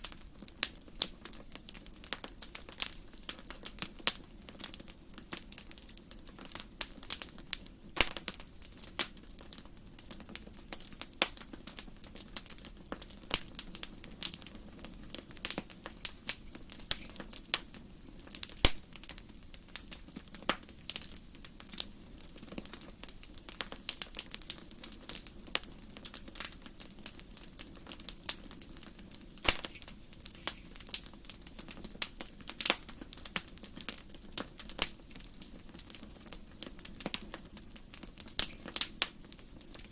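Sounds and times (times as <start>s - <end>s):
fire low hiss: 0.0s - 39.9s
wood fire crackling and popping: 0.0s - 39.9s.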